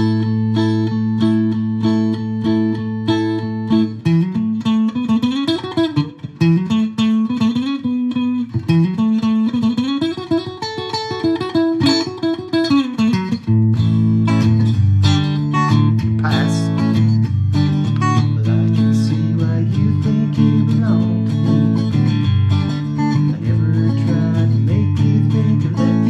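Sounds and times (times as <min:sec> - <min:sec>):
electric guitar picked melody: 0:00.0 - 0:26.0.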